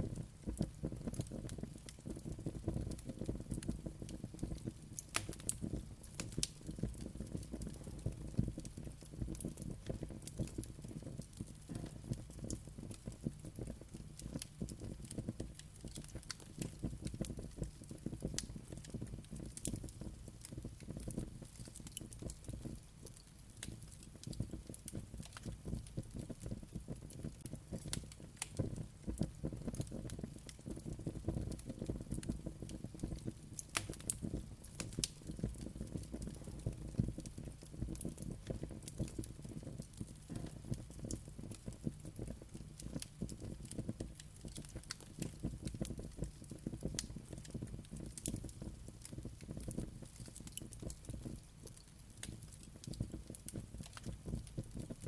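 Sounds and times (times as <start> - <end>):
fire crackles and pops: 0.0 - 55.0
wood fire rumbling: 0.0 - 55.0.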